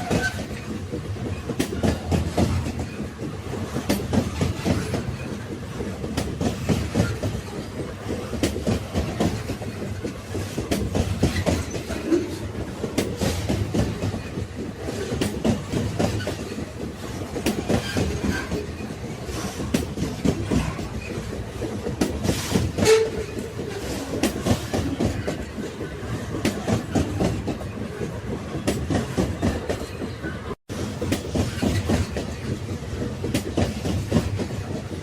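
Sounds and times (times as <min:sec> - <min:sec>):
railway carriage clank: 0:00.0 - 0:35.0
train wheels clickety-clack on rails: 0:00.0 - 0:35.0.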